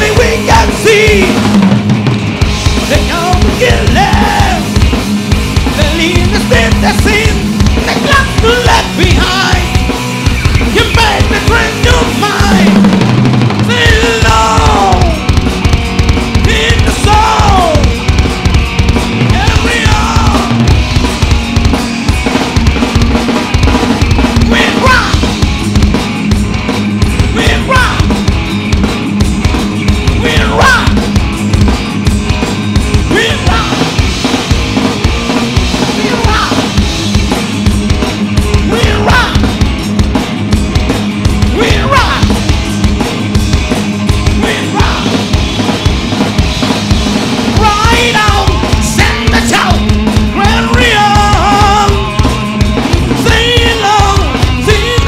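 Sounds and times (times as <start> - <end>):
fast drum-kit beat: 0.0 - 55.0
loud rock music: 0.0 - 55.0.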